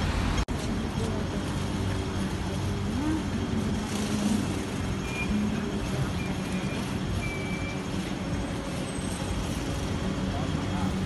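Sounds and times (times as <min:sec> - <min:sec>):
tyre and road noise: 0:00.0 - 0:11.0
vehicle engines running: 0:00.0 - 0:11.0.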